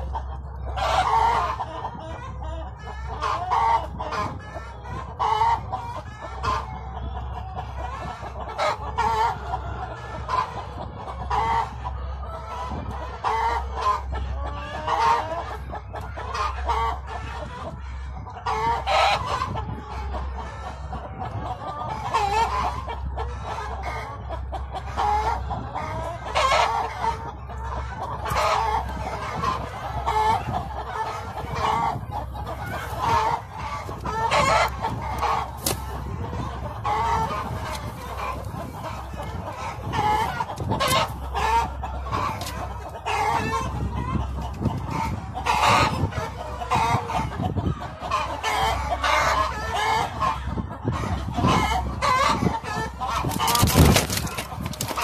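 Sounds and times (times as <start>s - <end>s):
hens clucking: 0.0s - 55.0s
steady low hum: 0.0s - 55.0s.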